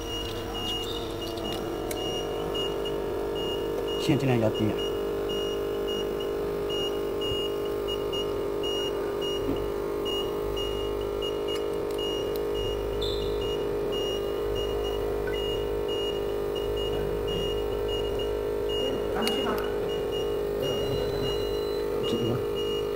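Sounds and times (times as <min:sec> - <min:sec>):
electric machine hum: 0:00.0 - 0:22.9
high electronic beeps: 0:00.0 - 0:22.9.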